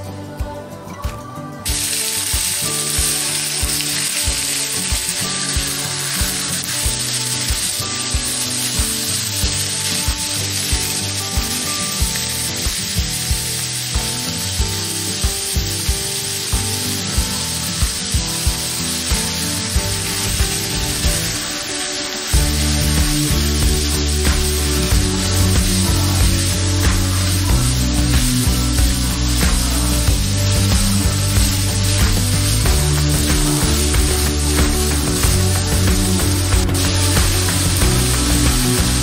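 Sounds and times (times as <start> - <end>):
music with steady beat: 0.0 - 39.0
food sizzling in hot oil: 1.6 - 39.0.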